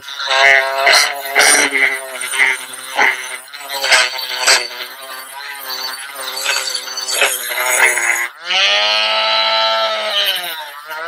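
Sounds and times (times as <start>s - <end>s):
rotary tool whining on metal: 0.0s - 11.0s.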